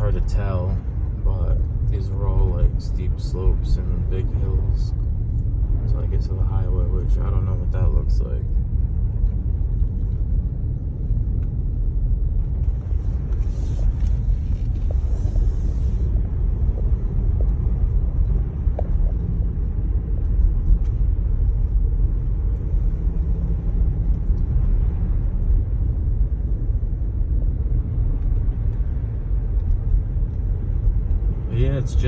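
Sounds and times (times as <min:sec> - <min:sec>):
car engine: 0:00.0 - 0:32.0
tyre and road noise: 0:00.0 - 0:32.0.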